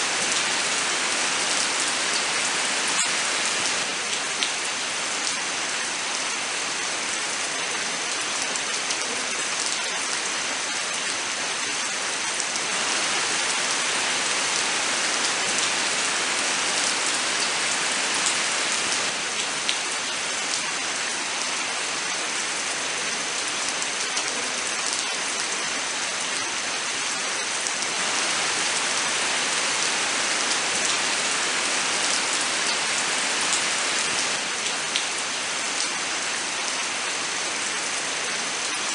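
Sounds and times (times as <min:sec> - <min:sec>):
steady rain in a forest: 0:00.0 - 0:38.9.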